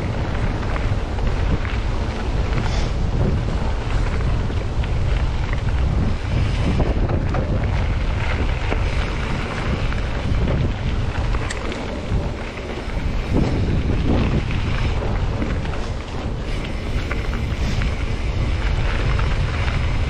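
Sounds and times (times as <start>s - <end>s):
bike clicks and rattles: 0.0s - 20.0s
bike tyre noise: 0.0s - 20.0s
wind buffeting microphone: 0.0s - 20.0s.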